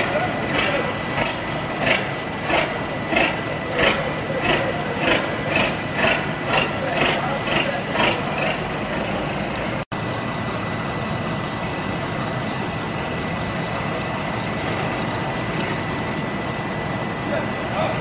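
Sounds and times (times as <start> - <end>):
engine hum: 0.0 - 18.0
machinery hum with high whine: 0.0 - 18.0.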